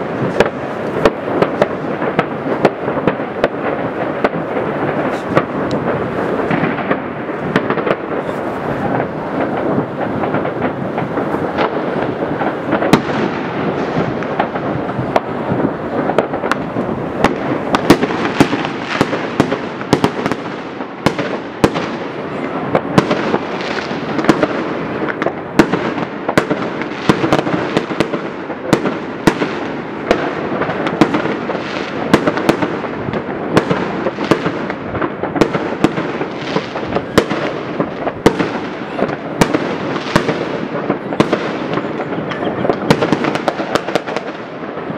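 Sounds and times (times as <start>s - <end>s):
distant fireworks rumble: 0.0s - 44.9s
sharp firework cracks: 0.0s - 44.9s.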